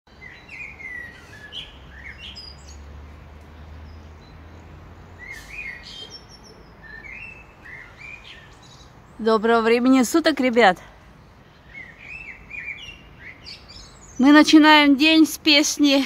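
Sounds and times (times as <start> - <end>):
songbird singing: 0.1 - 16.0.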